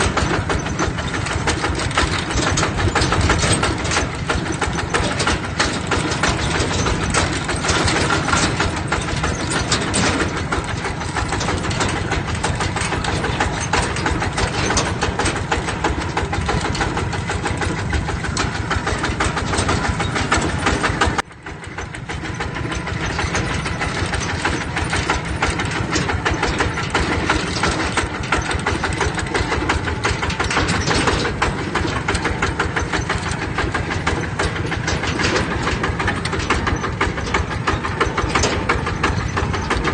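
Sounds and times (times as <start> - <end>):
small diesel engine knocking: 0.0 - 39.9.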